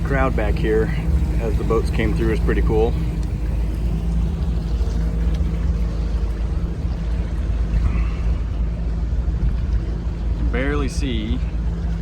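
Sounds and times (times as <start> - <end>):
boat engine drone: 0.0 - 12.0
rushing water: 0.0 - 12.0.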